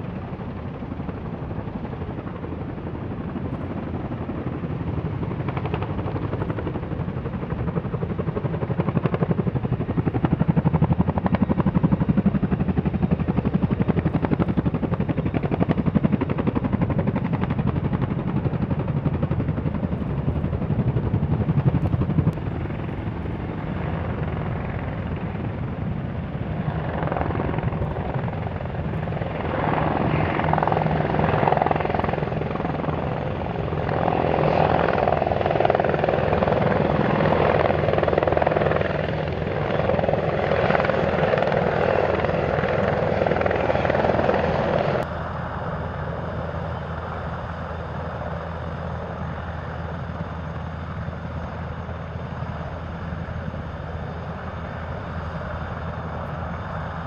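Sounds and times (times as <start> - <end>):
helicopter rotors and turbines: 0.0 - 57.0
helicopter rotors turning: 0.0 - 57.0.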